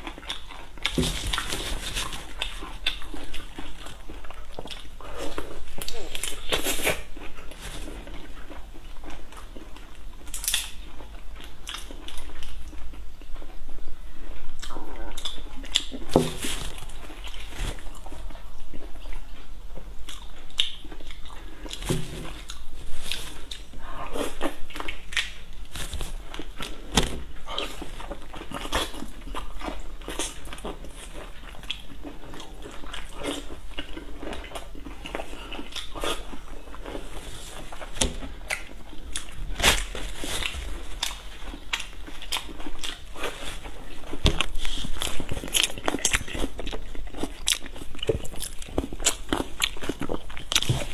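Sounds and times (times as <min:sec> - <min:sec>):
biting and chewing crackles: 0:00.0 - 0:50.9.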